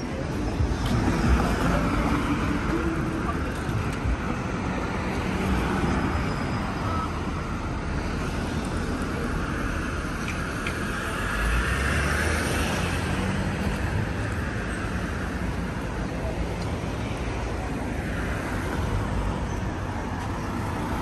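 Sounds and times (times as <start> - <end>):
road traffic rumbling: 0.0 - 21.0.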